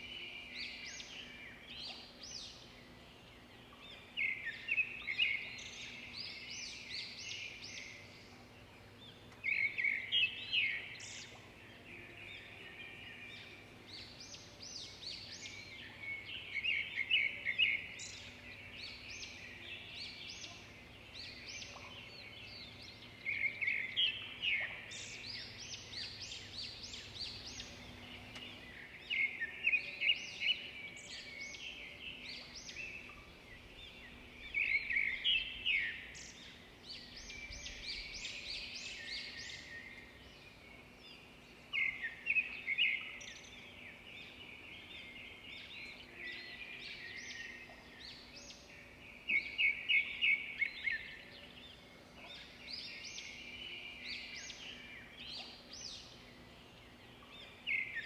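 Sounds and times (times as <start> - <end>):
songbirds twittering: 0.0 - 58.0.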